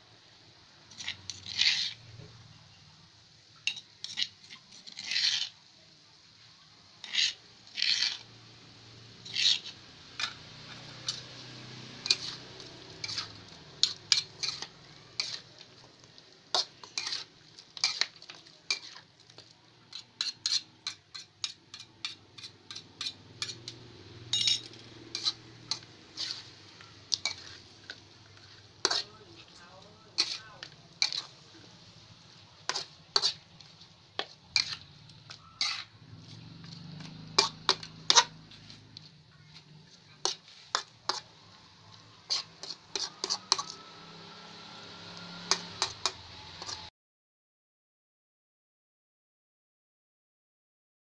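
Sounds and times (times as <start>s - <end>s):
metal spoon scraping a wok: 0.9s - 2.2s, 3.6s - 5.6s, 7.0s - 8.5s, 9.2s - 46.9s.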